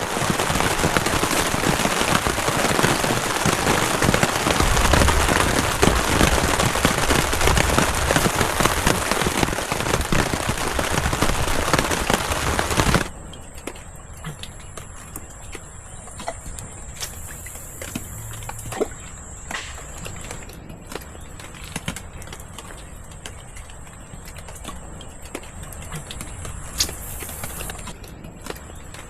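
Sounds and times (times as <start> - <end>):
heavy rain on plastic sheet: 0.0 - 13.1, 17.0 - 18.9, 19.6 - 29.0.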